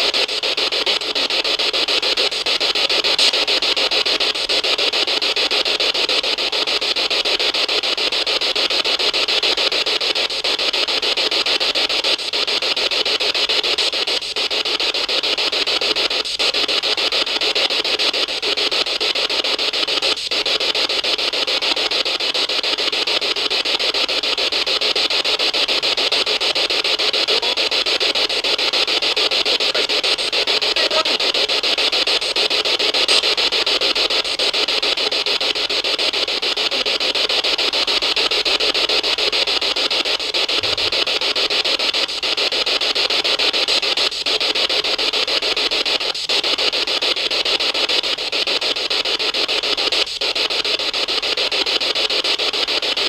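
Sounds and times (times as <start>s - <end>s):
steady loud hiss: 0.0s - 53.0s.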